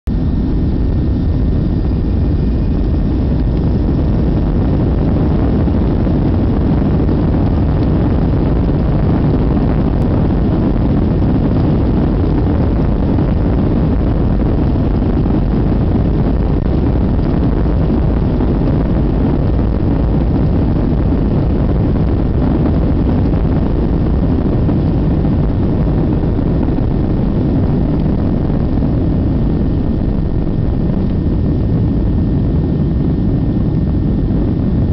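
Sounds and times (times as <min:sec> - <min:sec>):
faint high whine: 0:00.1 - 0:34.9
jet engine roar in cabin: 0:00.1 - 0:34.9.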